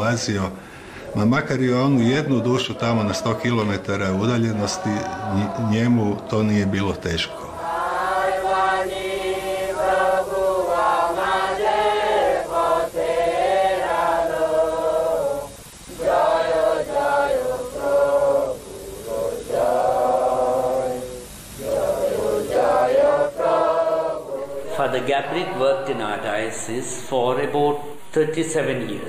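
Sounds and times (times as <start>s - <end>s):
group of voices chanting: 1.8s - 28.1s.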